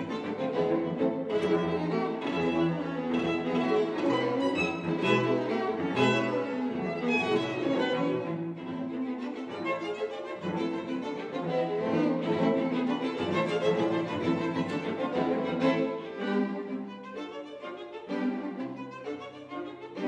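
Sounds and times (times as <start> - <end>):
string quartet playing: 0.0 - 20.0.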